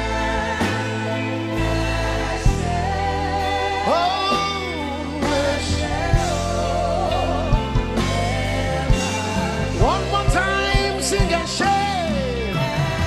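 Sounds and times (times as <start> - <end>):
band holding sustained chords: 0.0 - 13.0.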